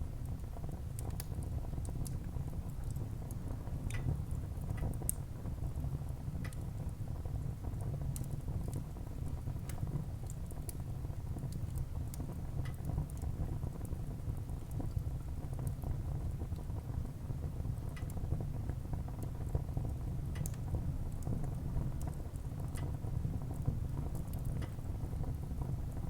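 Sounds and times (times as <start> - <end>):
low rumble of flame: 0.0 - 26.0.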